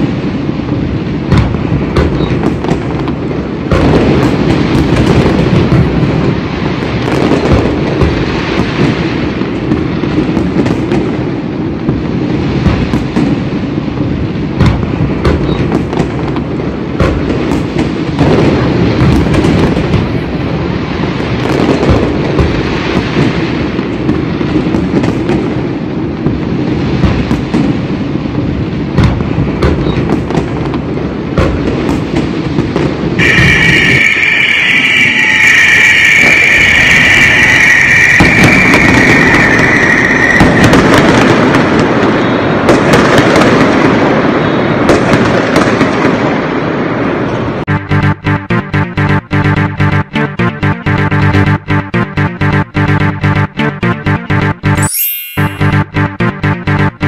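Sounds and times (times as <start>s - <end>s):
fireworks bangs and crackles: 0.0s - 54.6s.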